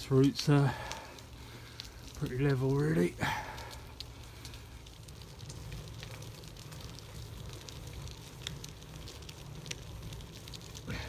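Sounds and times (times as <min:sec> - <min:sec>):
tyres crackling over grit: 0:00.0 - 0:11.0.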